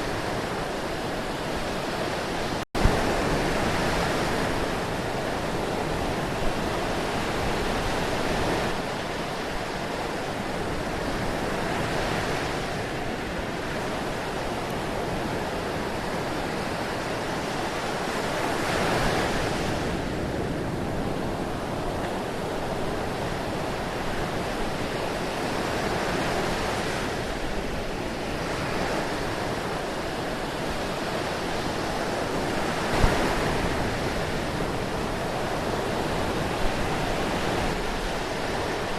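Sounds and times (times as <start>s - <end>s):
ocean surf: 0.0s - 38.9s.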